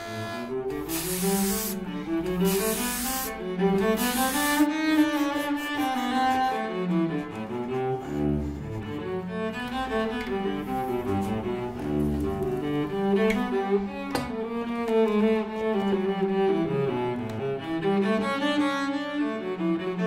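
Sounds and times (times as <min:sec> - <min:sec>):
bowed cello melody: 0:00.0 - 0:20.0.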